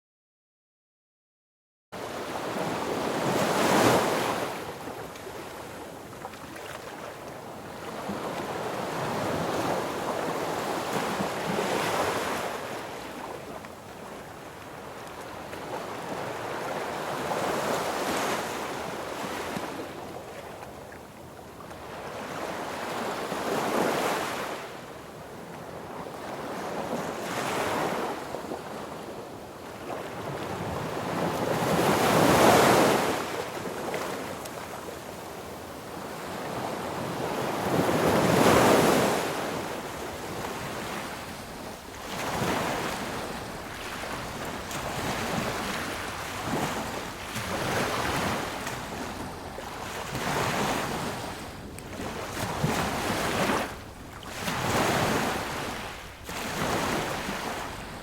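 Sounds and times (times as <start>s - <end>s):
sea waves breaking on beach: 2.0s - 20.8s, 21.8s - 24.8s, 29.7s - 58.0s.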